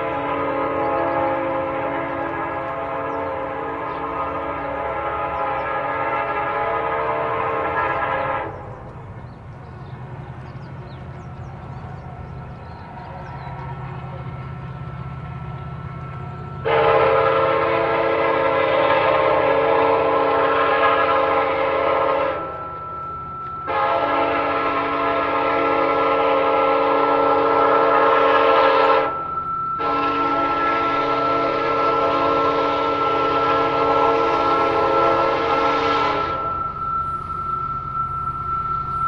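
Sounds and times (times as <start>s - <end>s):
locomotive horn blasts: 0.0s - 8.8s, 13.3s - 39.0s
train rumbling: 0.0s - 39.0s.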